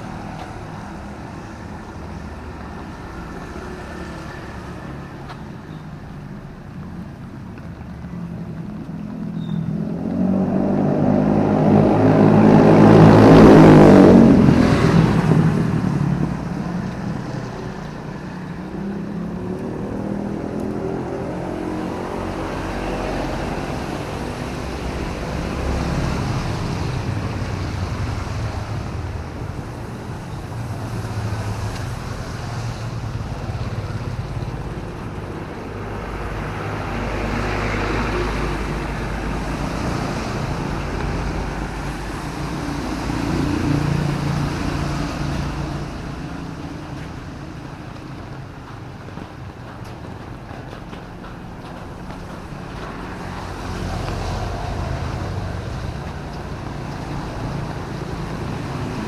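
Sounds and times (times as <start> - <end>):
background traffic hum: 0.0 - 59.0
vehicle passing on wet road: 0.0 - 59.0.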